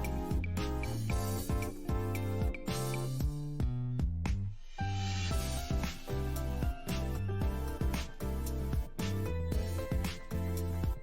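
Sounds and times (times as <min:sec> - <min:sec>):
music with steady beat and guitar: 0:00.0 - 0:11.0.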